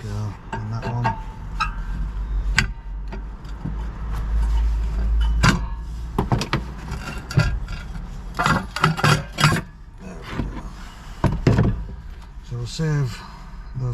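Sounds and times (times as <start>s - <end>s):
low steady rumble: 0.0s - 13.9s.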